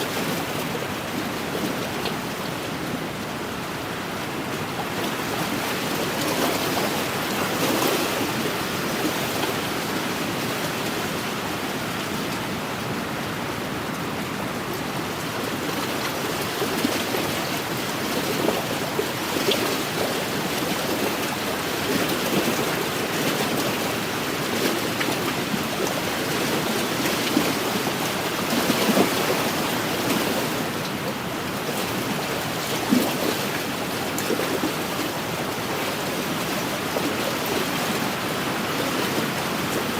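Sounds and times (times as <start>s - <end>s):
small waves lapping and splashing: 0.0s - 39.9s.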